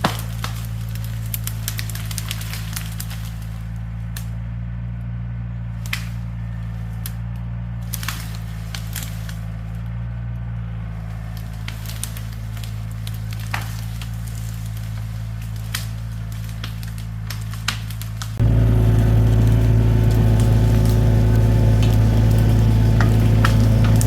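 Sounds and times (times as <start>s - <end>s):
wood and brush snapping: 0.0s - 4.6s, 5.7s - 24.0s
diesel engine running: 0.0s - 24.0s.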